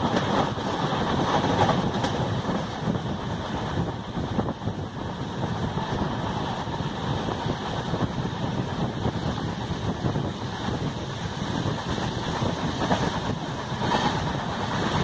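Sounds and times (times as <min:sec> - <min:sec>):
moving train rumble: 0:00.0 - 0:15.0
wind buffeting microphone: 0:00.0 - 0:15.0.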